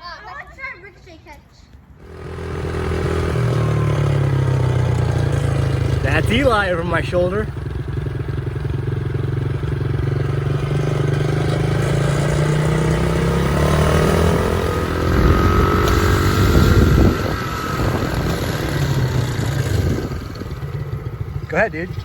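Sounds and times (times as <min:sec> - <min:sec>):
motorcycle engine accelerating: 0:02.0 - 0:22.0.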